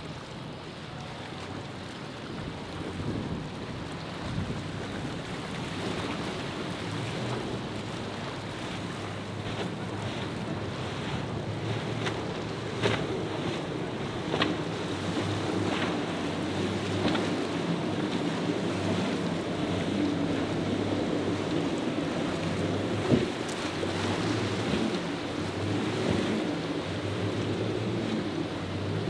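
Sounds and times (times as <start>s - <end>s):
outboard boat engines: 0.0s - 29.0s
water rushing and spray: 0.0s - 29.0s
wind buffeting microphone: 2.3s - 29.0s.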